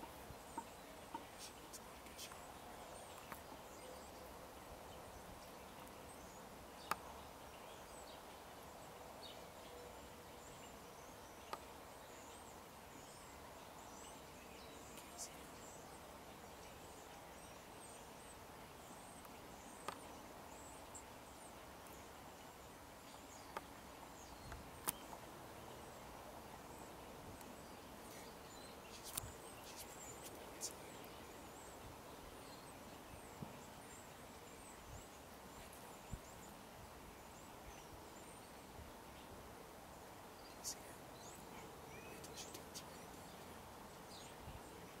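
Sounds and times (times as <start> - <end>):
outdoor background hiss: 0.0 - 45.0.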